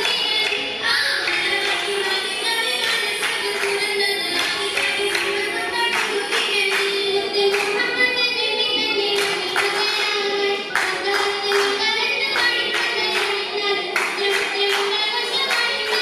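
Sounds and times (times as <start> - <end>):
girls singing: 0.0 - 16.0
rhythmic hand claps: 0.0 - 16.0.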